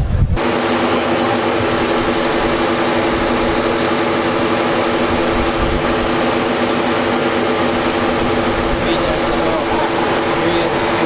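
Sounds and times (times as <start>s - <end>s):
vehicle engine idling: 0.4s - 11.0s.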